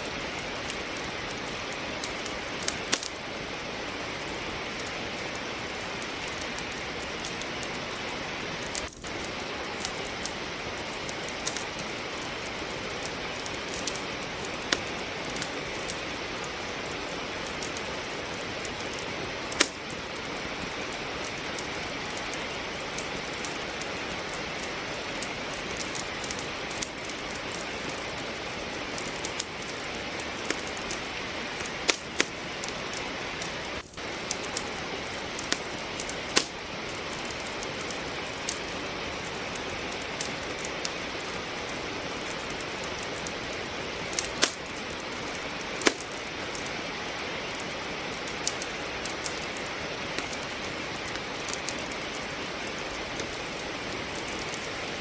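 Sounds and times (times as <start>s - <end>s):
steady rain falling: 0.0s - 55.0s
wood fire crackling: 0.0s - 55.0s.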